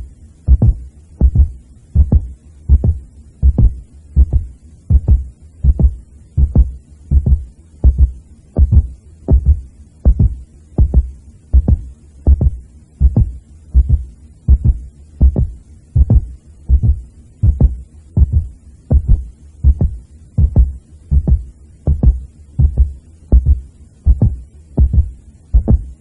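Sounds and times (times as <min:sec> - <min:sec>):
heartbeat thumps: 0:00.0 - 0:26.0.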